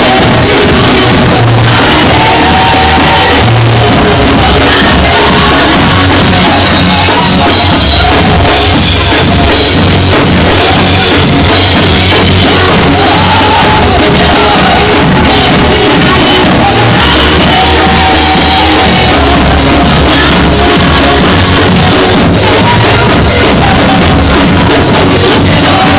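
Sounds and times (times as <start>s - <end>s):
drum kit and bass music: 0.0s - 25.9s
voices singing: 0.0s - 25.9s.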